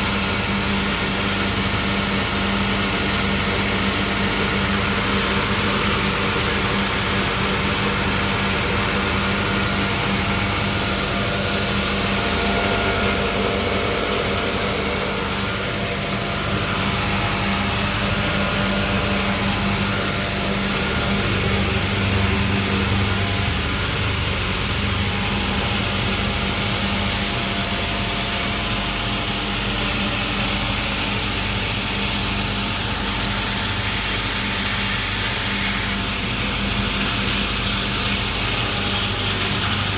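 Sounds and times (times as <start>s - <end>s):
metal dryer machine humming: 0.0s - 39.9s.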